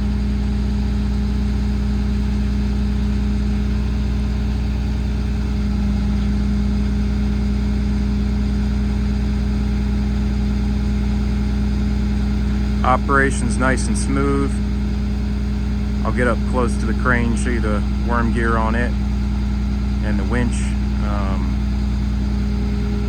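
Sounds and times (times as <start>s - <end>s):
diesel truck engine running: 0.0s - 23.0s
hydraulic crane operating: 0.0s - 23.0s.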